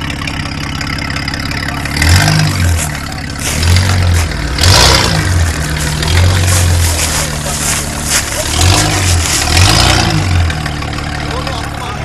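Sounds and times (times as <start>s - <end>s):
engine rumbling and revving: 0.0s - 12.0s.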